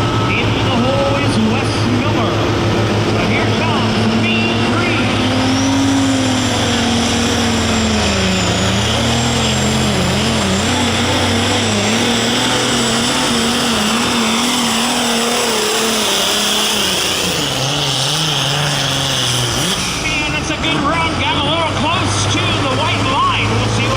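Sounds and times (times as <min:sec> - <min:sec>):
tractor engine running at high revs: 0:00.0 - 0:23.9.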